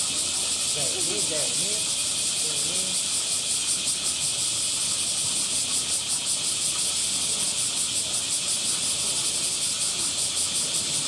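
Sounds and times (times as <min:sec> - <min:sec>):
cicadas shrilling: 0:00.0 - 0:11.0.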